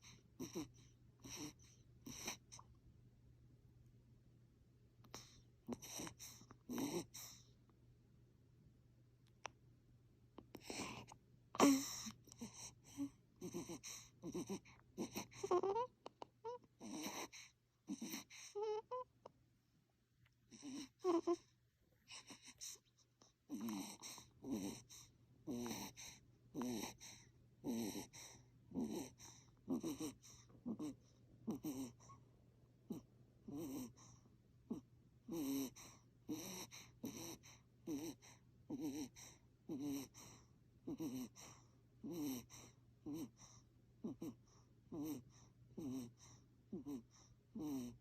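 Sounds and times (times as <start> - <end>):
infant snoring: 0.0 - 2.6, 5.1 - 7.5, 10.5 - 19.1, 20.5 - 21.5, 22.1 - 22.8, 23.5 - 32.2, 32.9 - 48.0.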